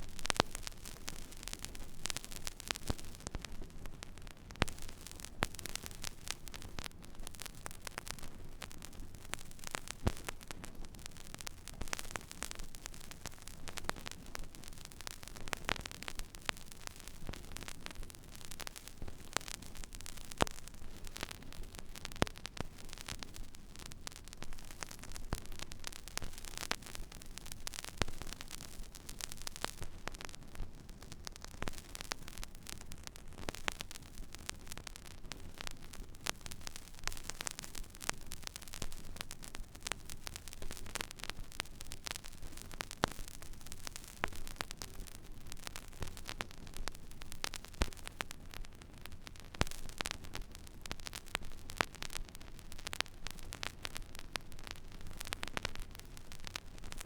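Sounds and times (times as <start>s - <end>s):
vinyl surface hiss and crackles: 0.0s - 57.0s.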